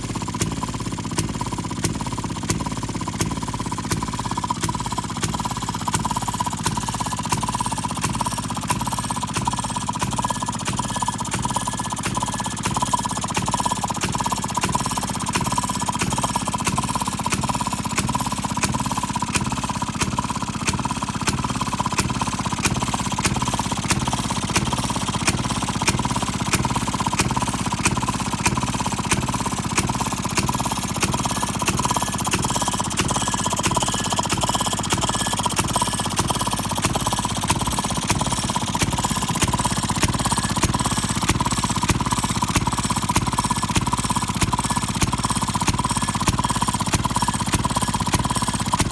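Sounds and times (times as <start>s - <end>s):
single-cylinder gas engine running: 0.0s - 48.9s.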